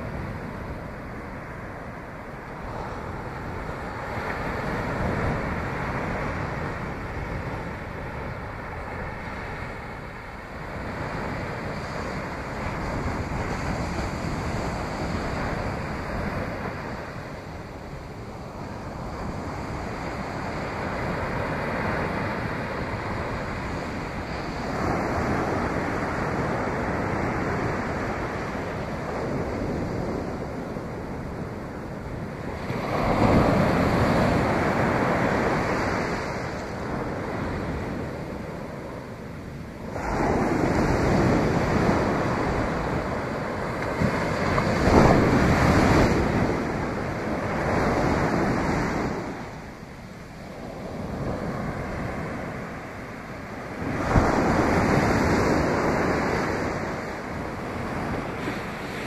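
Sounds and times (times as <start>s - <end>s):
ocean waves breaking on beach: 0.0s - 59.0s
wind on microphone: 0.0s - 59.0s.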